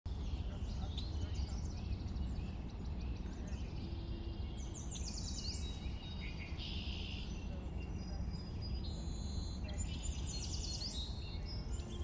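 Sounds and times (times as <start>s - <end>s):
birds chirping: 0.1s - 12.0s
low background rumble: 0.1s - 12.0s.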